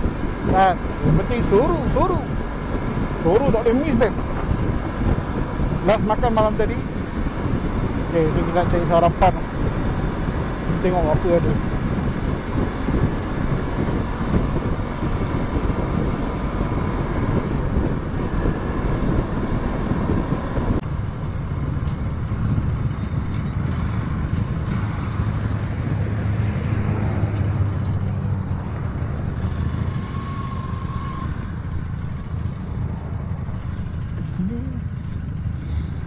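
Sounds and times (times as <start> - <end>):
motorcycle engine: 0.0 - 36.0
wind rushing over microphone: 0.0 - 36.0.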